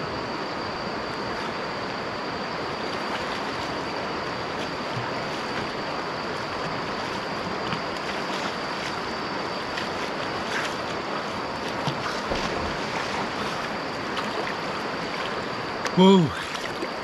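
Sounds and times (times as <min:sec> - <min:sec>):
swimmer splashing: 0:02.6 - 0:17.0
river water lapping against rocks: 0:02.7 - 0:17.0.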